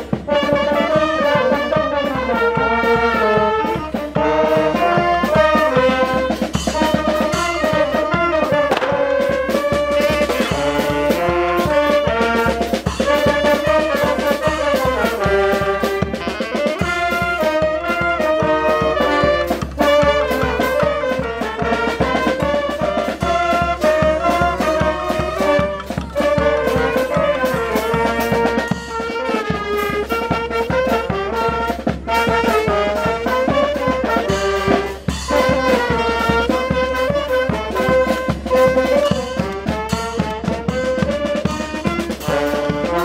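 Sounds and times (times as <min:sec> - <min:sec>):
brass band music: 0:00.0 - 0:43.0.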